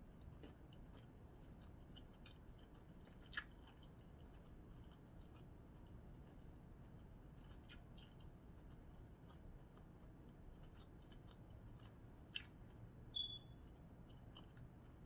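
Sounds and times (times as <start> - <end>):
person chewing: 0.2 - 12.8, 13.6 - 15.0.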